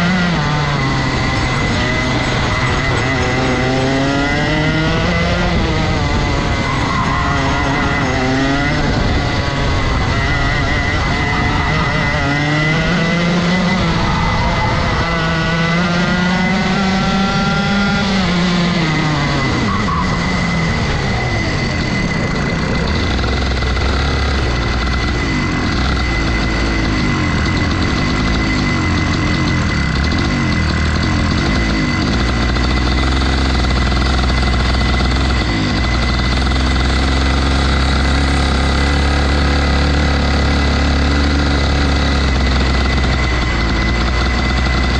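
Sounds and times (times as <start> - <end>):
kart engine revving and idling: 0.0 - 44.9.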